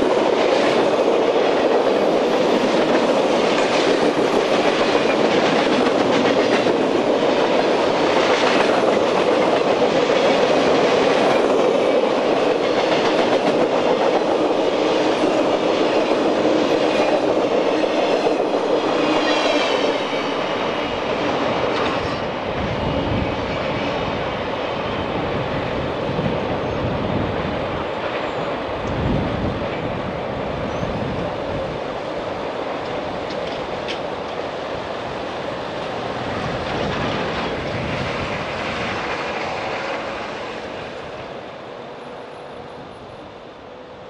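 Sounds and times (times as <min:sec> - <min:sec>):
clickety-clack of rail joints: 0:00.0 - 0:24.8, 0:27.5 - 0:43.2
freight train rumbling past: 0:00.0 - 0:44.0.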